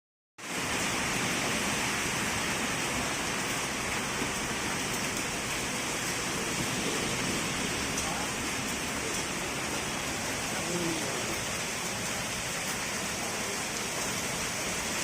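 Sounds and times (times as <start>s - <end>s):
heavy rain falling: 0.4s - 15.0s.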